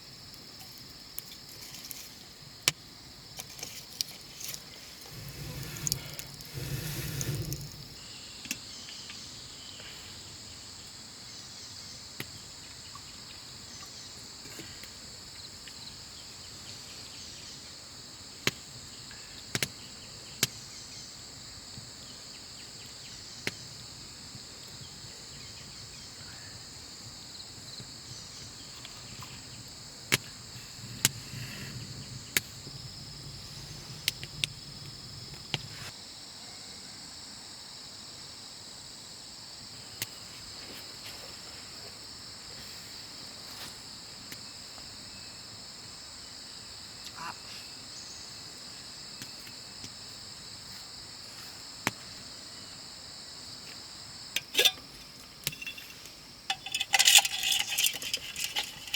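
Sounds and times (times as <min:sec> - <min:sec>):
insect chorus buzzing: 0:00.0 - 0:58.9.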